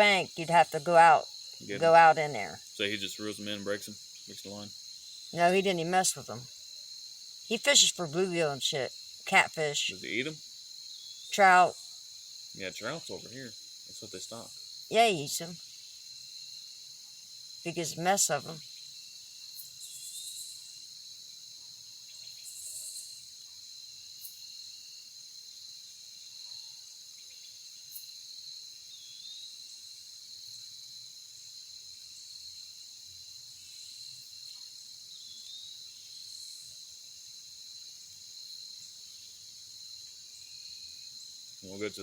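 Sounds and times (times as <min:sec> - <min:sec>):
insect chorus trilling: 0:00.0 - 0:42.0.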